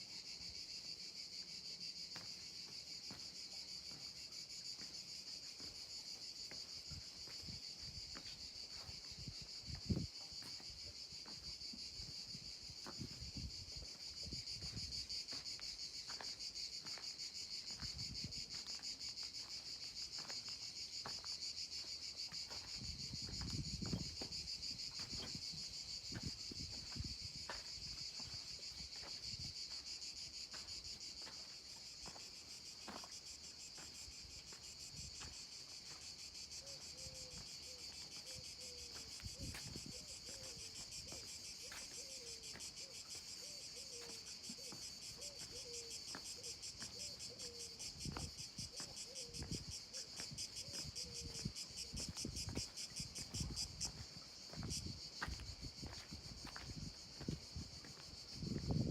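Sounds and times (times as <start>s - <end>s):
shrill insect chorus: 0.0s - 58.9s.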